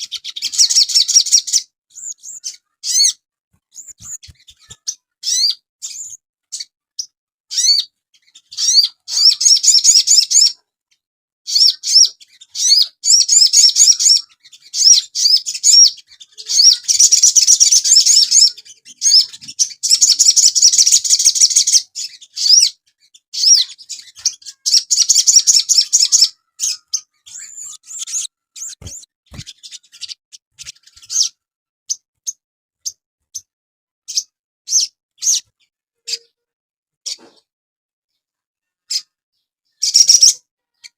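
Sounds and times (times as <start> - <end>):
bird chirping twitters: 0.0 - 10.6, 11.5 - 36.4, 39.7 - 40.9.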